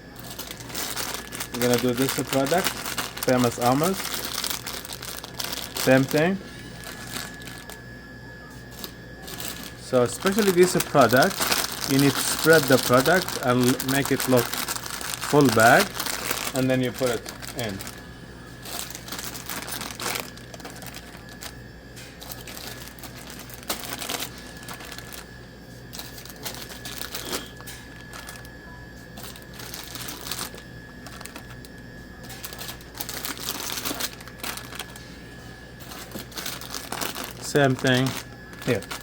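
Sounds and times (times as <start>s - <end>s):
plastic bags crinkling: 0.0s - 7.9s, 8.7s - 39.0s
faint steady hum: 0.0s - 39.0s.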